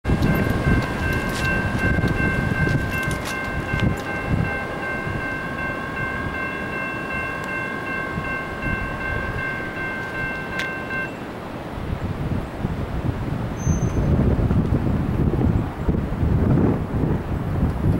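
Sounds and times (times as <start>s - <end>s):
low train rumble: 0.0s - 17.9s.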